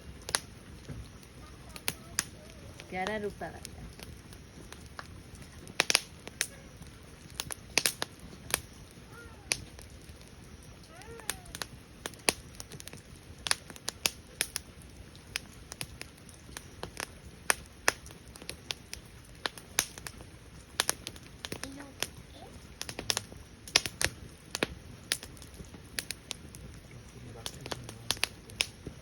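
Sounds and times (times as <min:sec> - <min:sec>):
firewood crackling: 0:00.0 - 0:29.0
sharp pops and snaps: 0:00.2 - 0:29.0.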